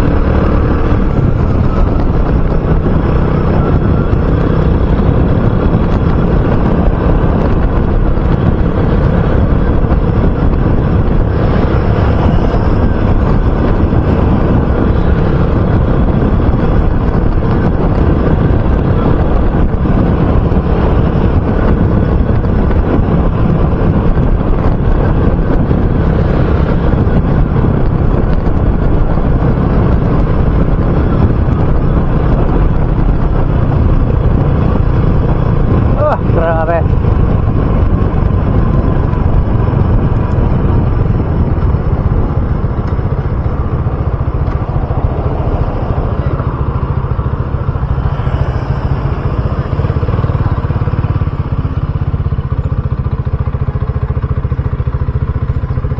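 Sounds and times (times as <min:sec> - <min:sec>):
motorcycle engine running: 0:00.0 - 0:55.9
wind on microphone: 0:00.0 - 0:55.9.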